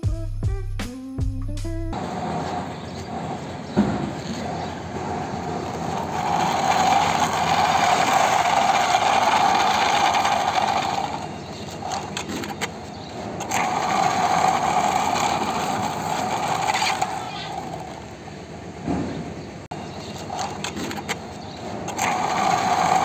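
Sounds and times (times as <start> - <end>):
toy wheels rolling on concrete: 2.0 - 18.2, 19.7 - 23.0.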